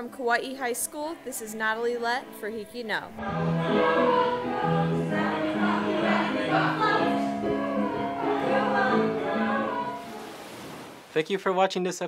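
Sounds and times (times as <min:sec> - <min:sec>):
group of voices singing: 0:00.5 - 0:10.3.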